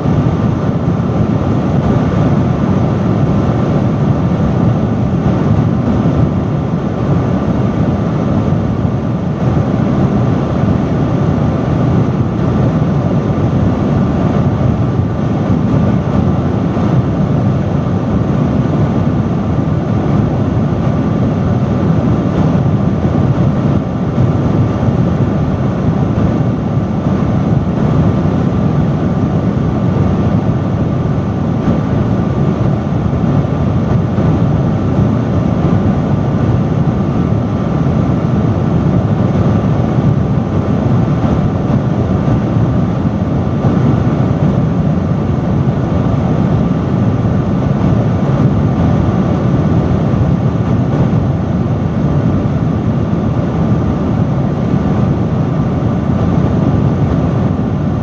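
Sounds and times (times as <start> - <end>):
industrial fan rushing air: 0.0 - 58.0.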